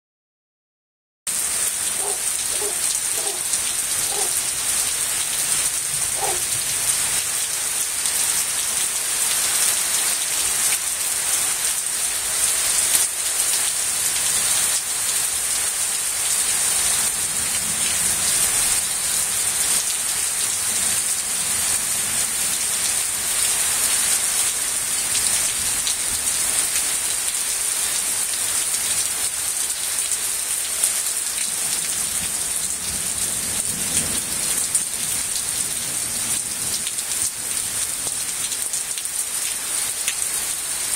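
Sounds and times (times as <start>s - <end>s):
rain pattering on surfaces: 1.3s - 40.9s.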